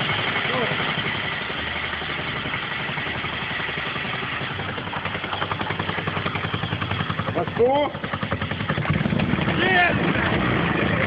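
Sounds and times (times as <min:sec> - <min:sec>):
rotary engine running: 0:00.0 - 0:11.0.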